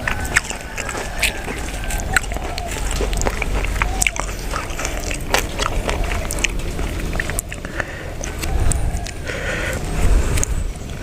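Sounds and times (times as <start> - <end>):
person chewing with open mouth: 0.0 - 11.0
steady low rumble: 0.0 - 11.0.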